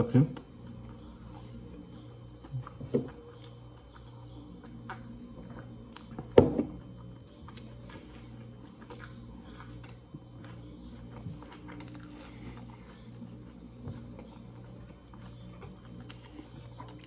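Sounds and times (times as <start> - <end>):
faint low hum: 0.0 - 17.0
man chewing food: 0.1 - 17.0.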